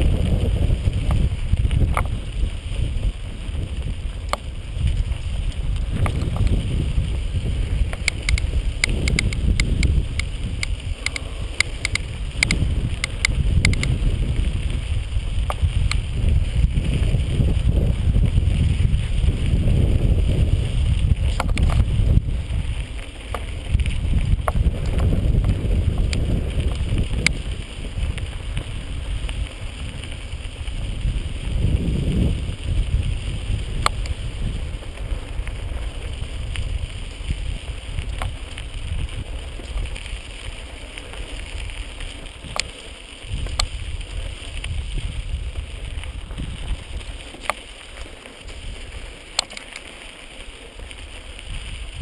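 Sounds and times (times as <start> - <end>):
bike clicks: 0.0 - 52.0
mountain bike rolling on dirt: 0.0 - 52.0
wind buffeting microphone: 0.0 - 52.0.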